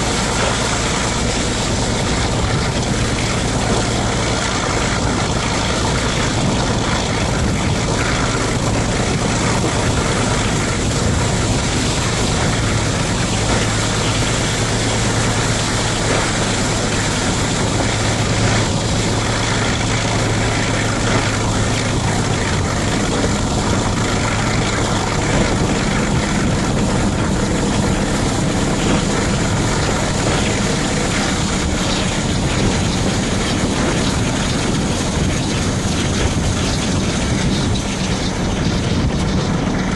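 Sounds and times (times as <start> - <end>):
low diesel engine hum: 0.0 - 39.9
train running noise: 0.0 - 39.9
wind rush: 0.0 - 39.9.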